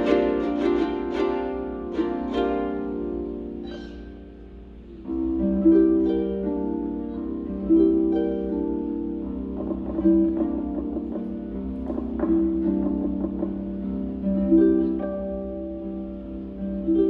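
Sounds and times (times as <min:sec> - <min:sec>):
harp playing: 0:00.0 - 0:17.0.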